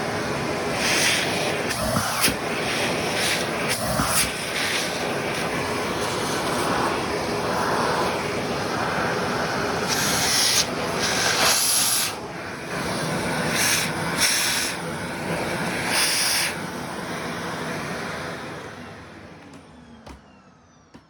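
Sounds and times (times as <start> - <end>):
vacuum cleaner suction hiss: 0.0 - 19.5.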